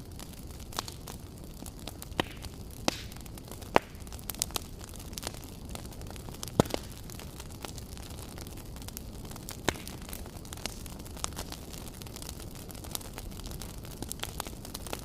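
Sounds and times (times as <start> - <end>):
logs crackling and popping: 0.0 - 15.0
low rush of flames: 0.0 - 15.0.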